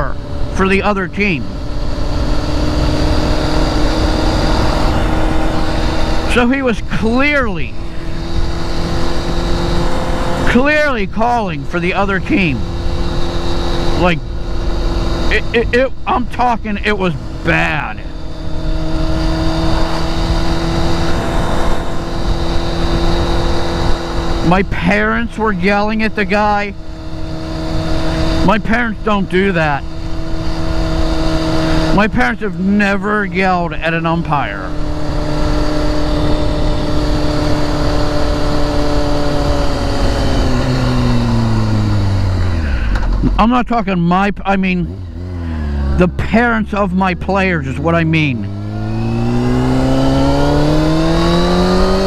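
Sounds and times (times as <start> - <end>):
road and wind noise: 0.0 - 52.0
vehicle engine droning: 0.0 - 52.0.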